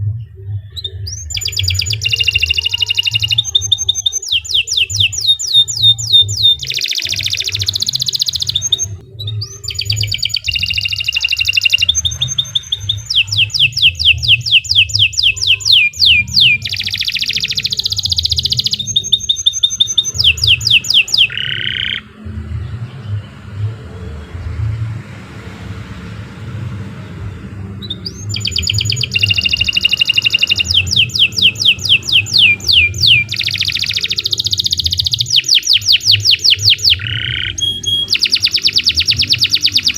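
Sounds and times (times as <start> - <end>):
low steady hum: 0.0 - 39.9
canary singing trills: 0.6 - 23.7, 27.8 - 39.9.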